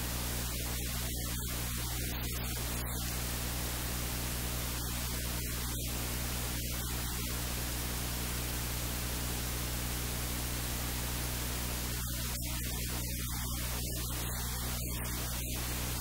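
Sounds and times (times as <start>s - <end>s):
steady electrical hiss: 0.0s - 16.0s.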